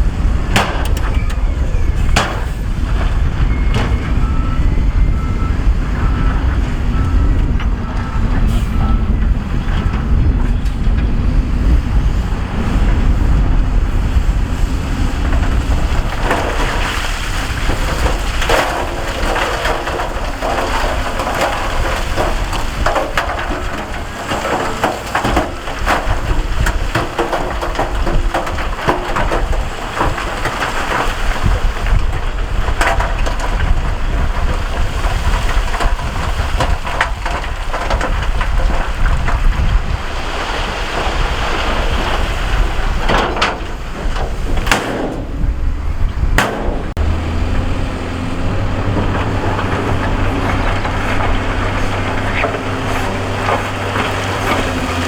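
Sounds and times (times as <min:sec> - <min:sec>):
diesel engine running: 0:00.0 - 0:40.1, 0:40.9 - 0:55.0
rock and gravel crunching: 0:00.0 - 0:55.0.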